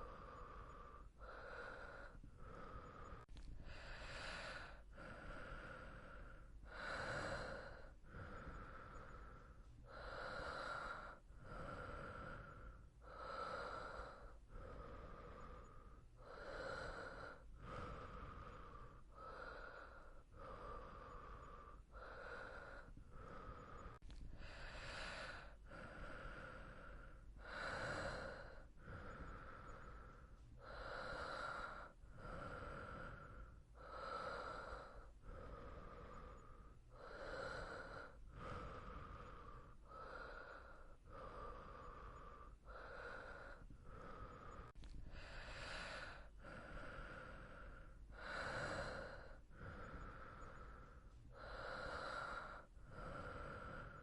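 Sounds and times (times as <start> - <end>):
person breathing softly in sleep: 0.0 - 54.0.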